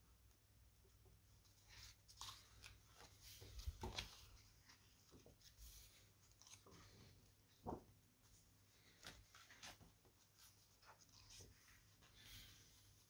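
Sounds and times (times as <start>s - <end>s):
book pages being turned: 1.4s - 13.0s.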